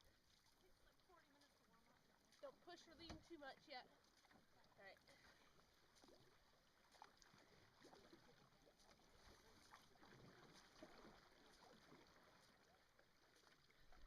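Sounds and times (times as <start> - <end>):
canoe paddles splashing: 0.0 - 14.0.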